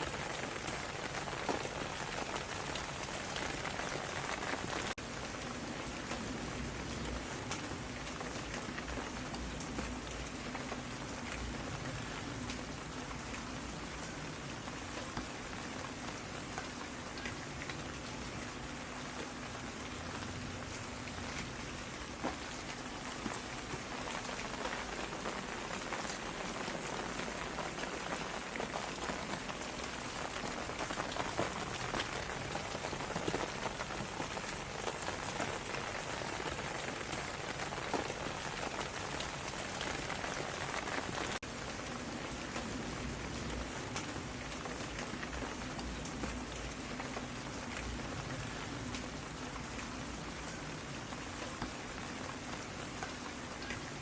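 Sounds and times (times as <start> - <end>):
raindrop hits: 0.0 - 14.1, 19.0 - 53.8
steady rain hiss: 0.0 - 54.0.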